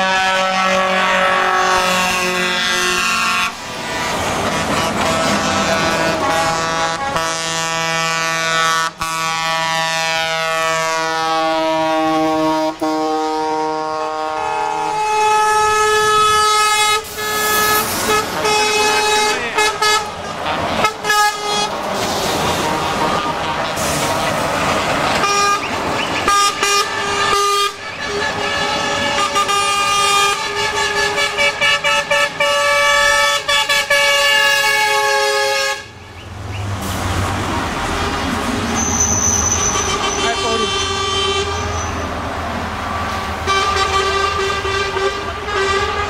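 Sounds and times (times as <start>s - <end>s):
truck air horns chord: 0.0s - 24.5s, 25.1s - 36.0s, 37.8s - 42.1s, 43.4s - 46.0s.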